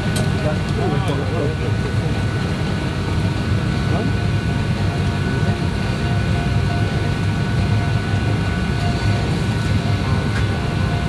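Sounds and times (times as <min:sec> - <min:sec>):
parked airliner rumble and hum: 0:00.0 - 0:11.0.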